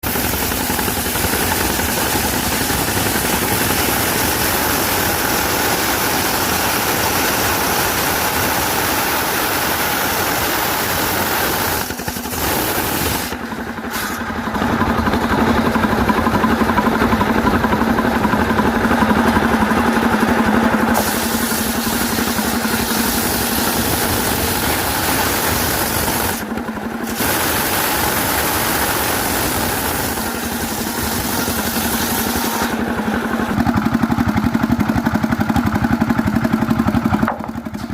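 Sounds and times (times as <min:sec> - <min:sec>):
engine hum: 0:00.0 - 0:37.9
sawmill machinery running: 0:00.0 - 0:37.9.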